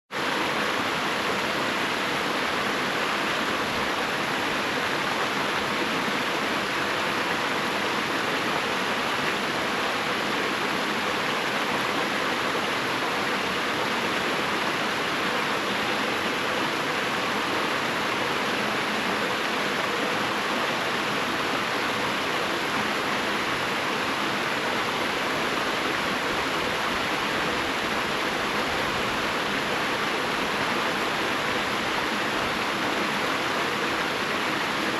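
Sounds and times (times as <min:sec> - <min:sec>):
rushing water roar: 0:00.2 - 0:34.9.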